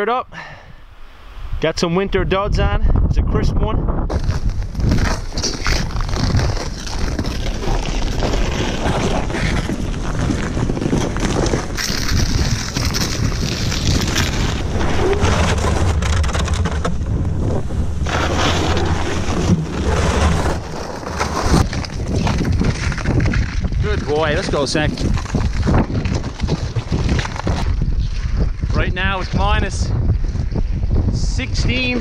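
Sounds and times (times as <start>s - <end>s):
storm wind buffeting microphone: 1.3s - 32.0s.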